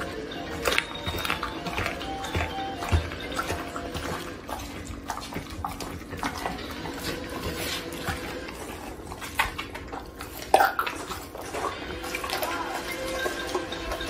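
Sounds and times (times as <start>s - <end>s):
dog chewing wetly: 0.0s - 14.0s.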